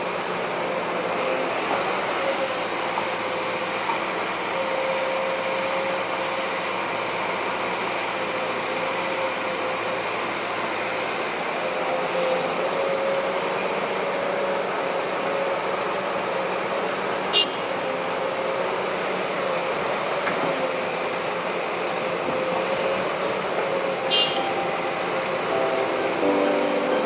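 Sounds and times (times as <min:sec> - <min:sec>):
heavy diesel machinery running: 0:00.0 - 0:27.0.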